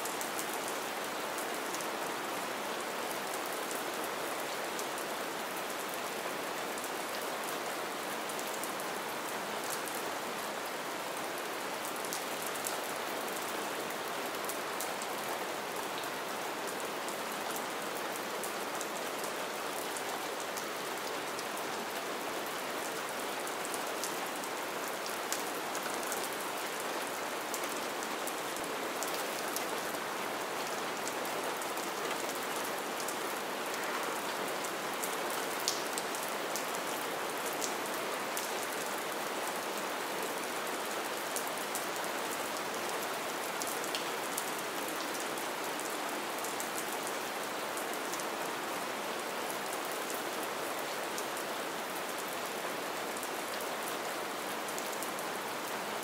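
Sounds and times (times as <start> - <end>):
gentle rain hiss: 0.0 - 56.0.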